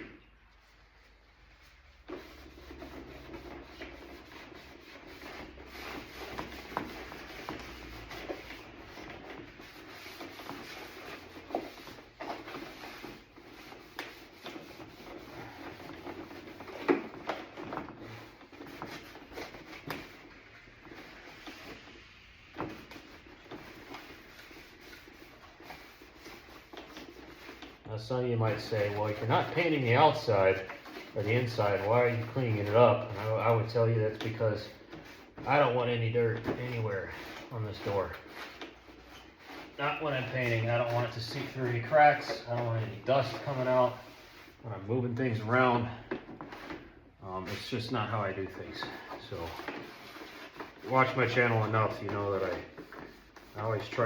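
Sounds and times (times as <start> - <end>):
rag rubbing plastic panel: 2.0 - 54.0.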